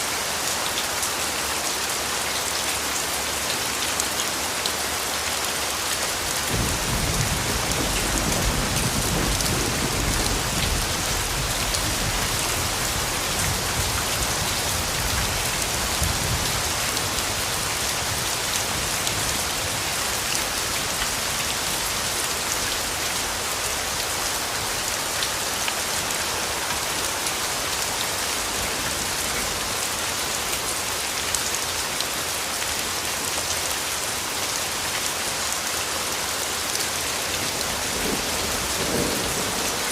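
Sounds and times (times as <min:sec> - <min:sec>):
rain hissing on leaves: 0:00.0 - 0:39.9.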